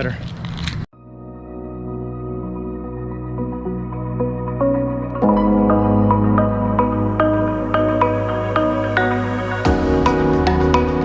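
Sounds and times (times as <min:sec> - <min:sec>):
new-age mallet music: 0:01.0 - 0:11.0.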